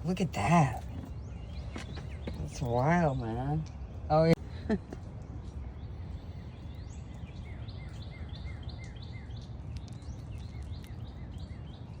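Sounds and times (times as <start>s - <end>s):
bird chirping: 0.0s - 4.2s, 5.4s - 12.0s.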